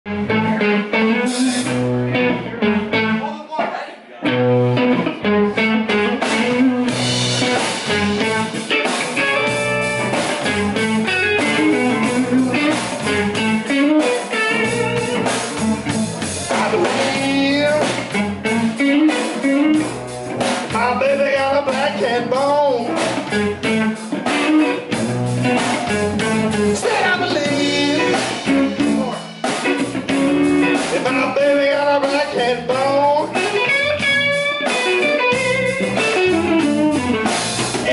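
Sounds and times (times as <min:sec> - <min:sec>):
electric bass: 0:00.1 - 0:03.2, 0:04.3 - 0:37.9
electric guitar bending notes: 0:00.1 - 0:03.2, 0:04.2 - 0:37.9
drum kit: 0:00.1 - 0:37.9.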